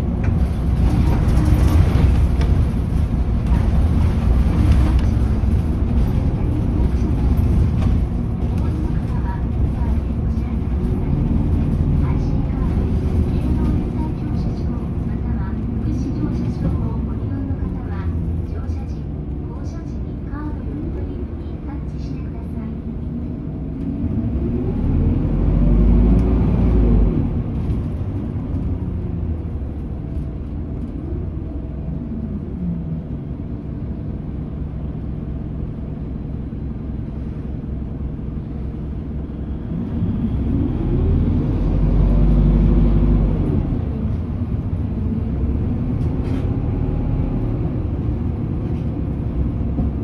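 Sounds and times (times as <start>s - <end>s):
bus diesel engine pulling: 0.0s - 50.0s
steady road noise: 0.0s - 50.0s.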